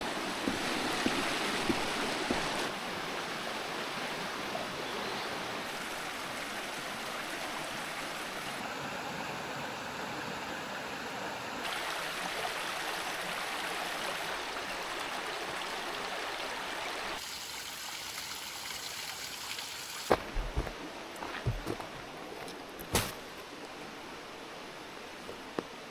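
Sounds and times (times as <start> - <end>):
river flowing: 0.0 - 25.9.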